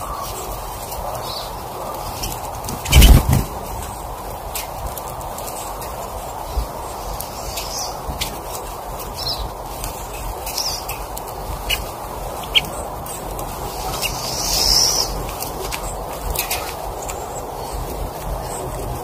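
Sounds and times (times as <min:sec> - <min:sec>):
songbirds chirping: 0:00.0 - 0:19.0
steady background hiss: 0:00.0 - 0:19.0.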